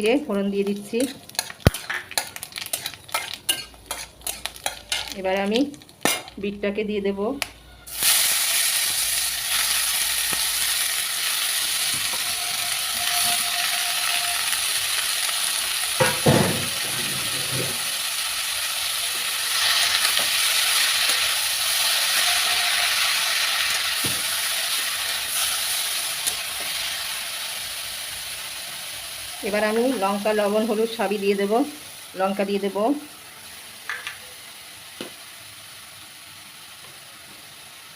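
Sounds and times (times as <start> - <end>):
beetroot sizzling in hot oil: 0.0 - 6.6, 7.4 - 37.9.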